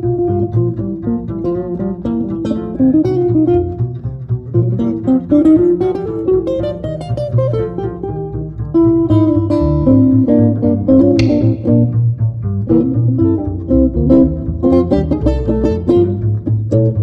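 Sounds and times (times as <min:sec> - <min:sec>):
jazz guitar melody: 0:00.0 - 0:17.0
plucked double bass: 0:00.0 - 0:17.0.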